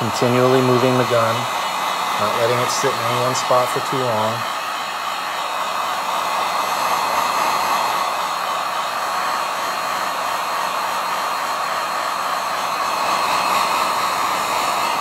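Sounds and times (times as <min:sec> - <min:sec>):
heat gun blowing air: 0:00.0 - 0:15.0.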